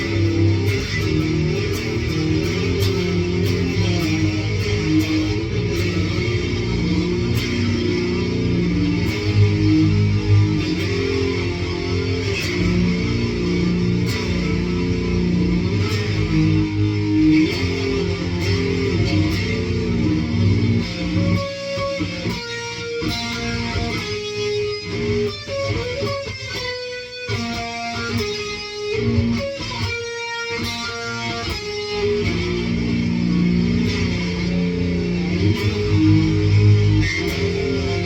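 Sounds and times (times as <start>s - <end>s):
distorted electric guitar: 0.0s - 38.0s.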